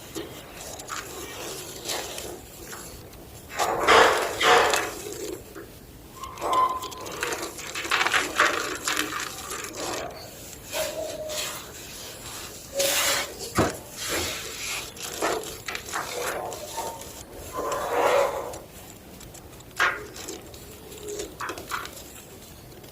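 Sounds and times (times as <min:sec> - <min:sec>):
chalk block crunching and scraping: 0:00.0 - 0:05.5, 0:06.2 - 0:22.9.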